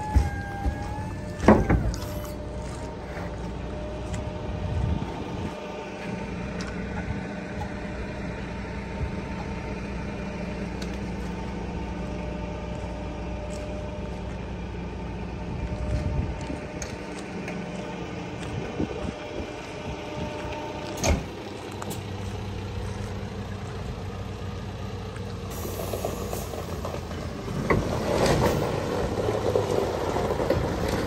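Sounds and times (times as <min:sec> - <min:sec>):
truck diesel engine idling: 0:00.0 - 0:31.0.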